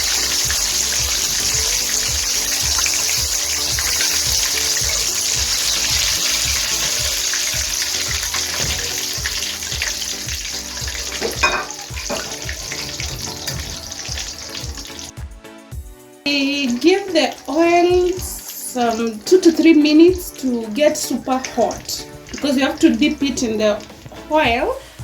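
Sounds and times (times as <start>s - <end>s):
chicken wings sizzling in oil: 0.0s - 15.1s, 16.3s - 25.0s.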